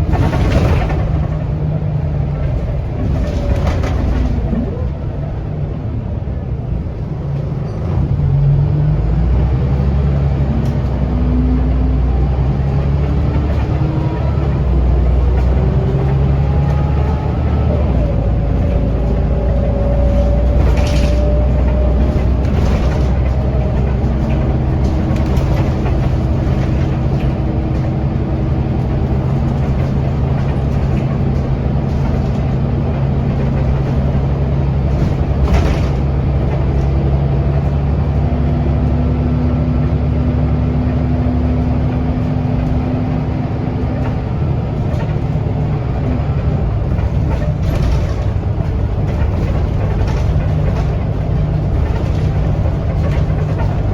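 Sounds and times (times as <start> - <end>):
bus engine drone: 0.0 - 53.9.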